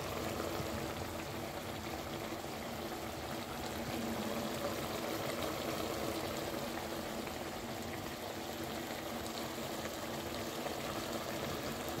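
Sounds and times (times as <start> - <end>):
curry bubbling in a wok: 0.0 - 12.0.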